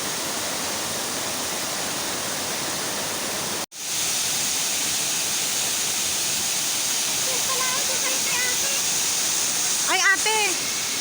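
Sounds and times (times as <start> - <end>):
waterfall rushing water: 0.0 - 11.0.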